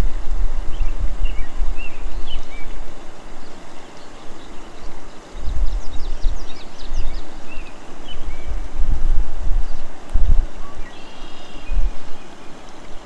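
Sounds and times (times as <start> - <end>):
birds chirping: 0.0 - 13.0
wind rumble on microphone: 0.0 - 13.0.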